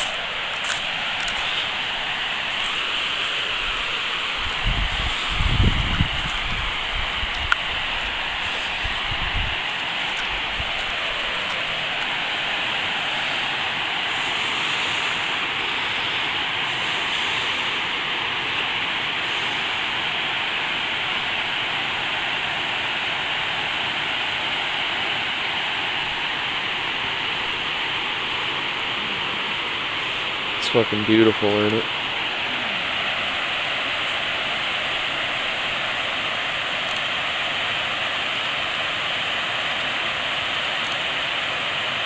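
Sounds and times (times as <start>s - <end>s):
water rushing down spillway: 0.0s - 42.0s.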